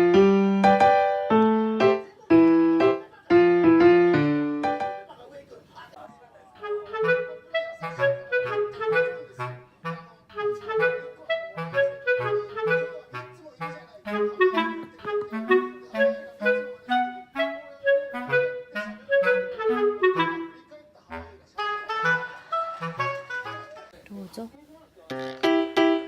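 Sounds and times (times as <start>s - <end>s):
bouncy woodwind melody: 0.0s - 5.1s, 6.6s - 20.7s, 21.6s - 23.9s.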